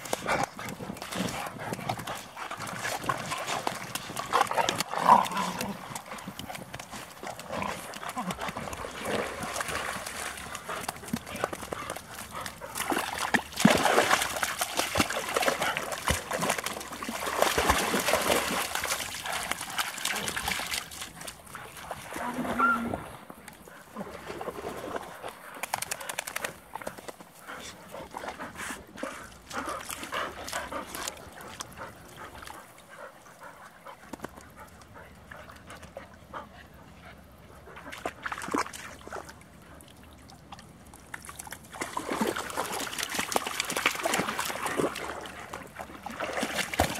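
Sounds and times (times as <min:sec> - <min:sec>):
dogs splashing in water: 0:00.0 - 0:46.9.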